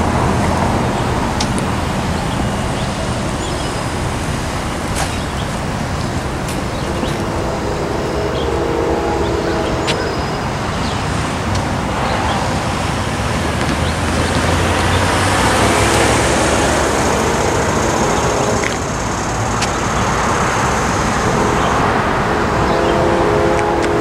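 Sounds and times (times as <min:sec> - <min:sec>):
car driving past: 0:00.0 - 0:24.0
steady traffic noise: 0:00.0 - 0:24.0.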